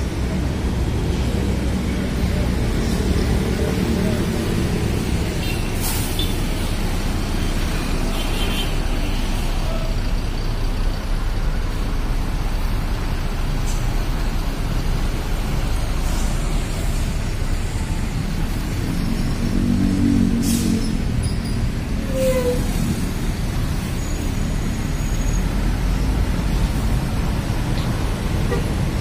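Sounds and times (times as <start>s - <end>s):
bus diesel engine revving: 0.0s - 29.0s.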